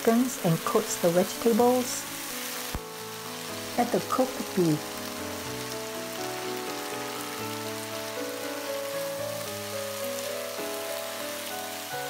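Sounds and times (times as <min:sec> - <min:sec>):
background music with held notes: 0:00.0 - 0:12.0
stir-fry sizzling in a wok: 0:00.0 - 0:12.0.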